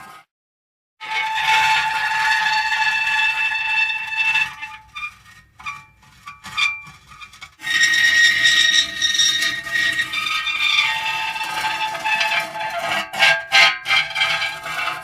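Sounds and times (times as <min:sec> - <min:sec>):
metal creaking squeal: 0:01.0 - 0:15.0
short metal squeaks: 0:01.1 - 0:15.0.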